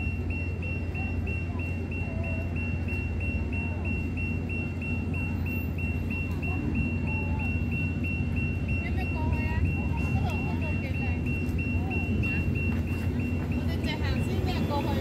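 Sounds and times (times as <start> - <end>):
crossing signal beeping: 0.0 - 15.0
low city rumble: 0.0 - 15.0.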